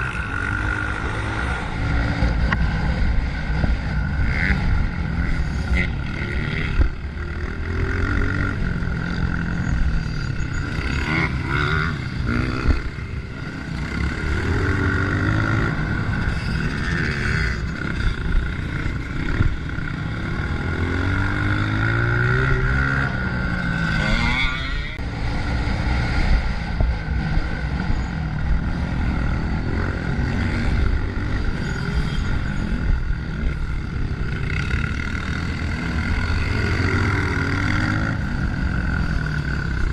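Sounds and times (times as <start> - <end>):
dirt bike engine revving: 0.0 - 39.9
rough wind and track noise: 0.0 - 39.9.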